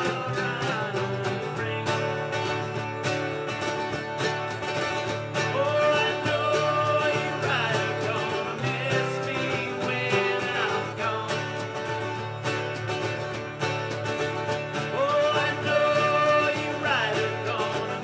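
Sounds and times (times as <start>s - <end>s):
strummed acoustic guitars: 0.0s - 18.0s.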